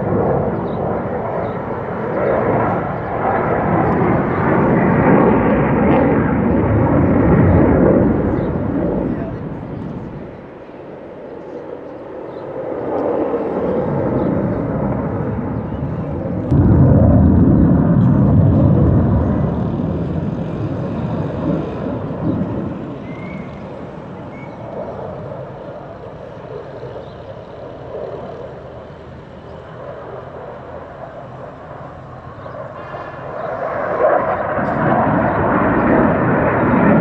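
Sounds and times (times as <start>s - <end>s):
jet engine rumble overhead: 0.0s - 37.0s.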